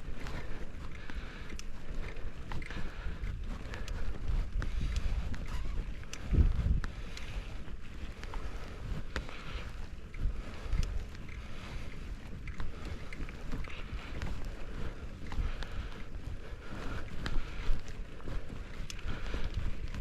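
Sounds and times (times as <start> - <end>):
bike clicks and rattles: 0.0 - 20.0
wind buffeting microphone: 0.0 - 20.0.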